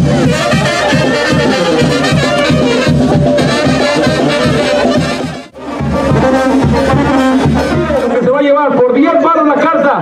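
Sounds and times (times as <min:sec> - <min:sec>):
brass band music: 0:00.0 - 0:09.6.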